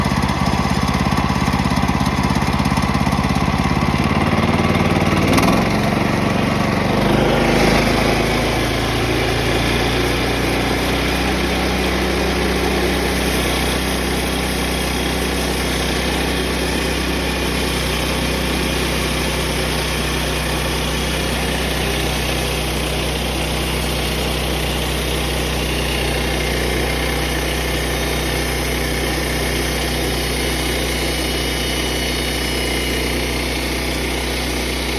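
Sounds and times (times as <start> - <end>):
small gasoline engine running: 0.0 - 34.9.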